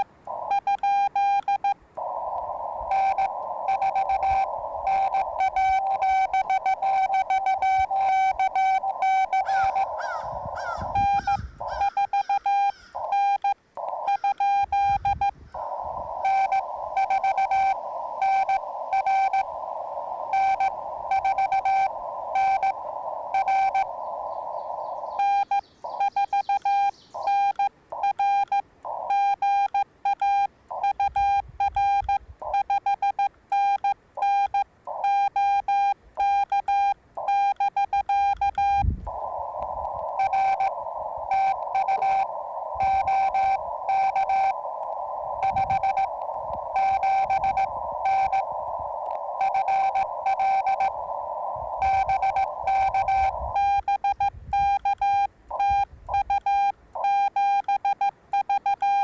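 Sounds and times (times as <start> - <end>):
radio band hiss: 0.0 - 58.3
morse code tone: 0.0 - 59.0.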